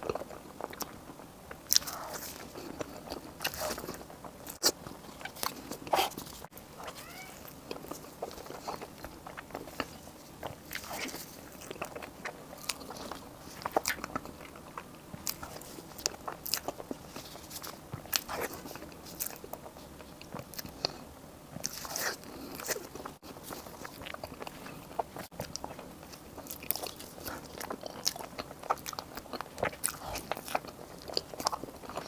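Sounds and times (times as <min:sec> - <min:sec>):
chewing and biting: 0:00.0 - 0:21.0, 0:21.6 - 0:32.0.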